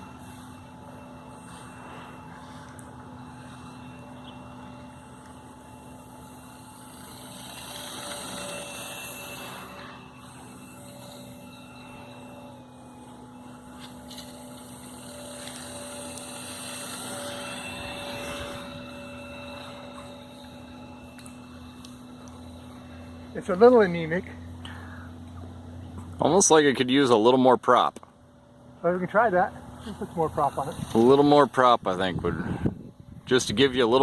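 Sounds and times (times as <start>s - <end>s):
motor and propeller droning: 0.0s - 34.0s.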